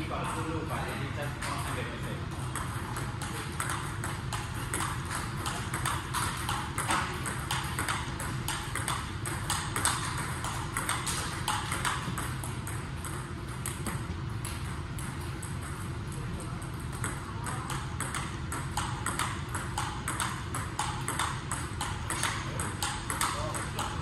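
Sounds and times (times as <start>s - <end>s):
table tennis ball clicking: 2.4s - 15.8s, 16.6s - 24.0s.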